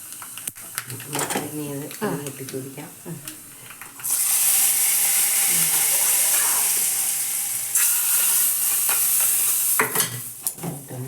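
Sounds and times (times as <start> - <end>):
spices sizzling in hot oil: 0.0 - 2.8, 3.8 - 11.0.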